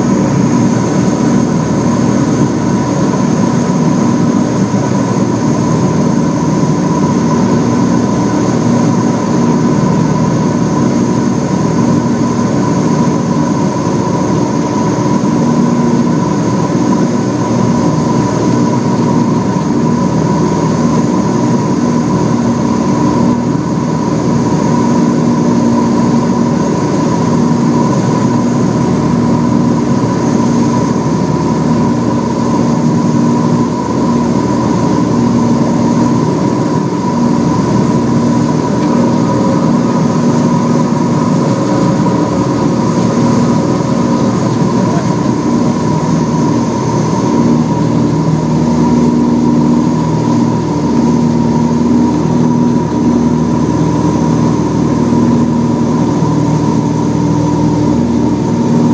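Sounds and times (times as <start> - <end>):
twin propeller engines droning: 0.0 - 58.9.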